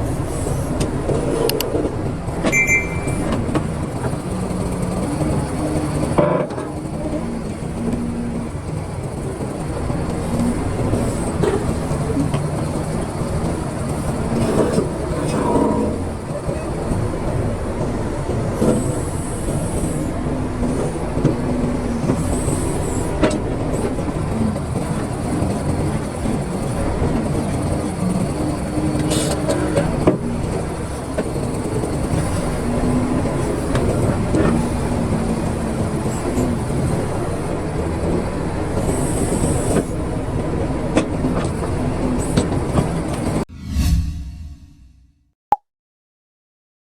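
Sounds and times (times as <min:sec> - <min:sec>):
excavator engine rumble: 0:00.0 - 0:43.5.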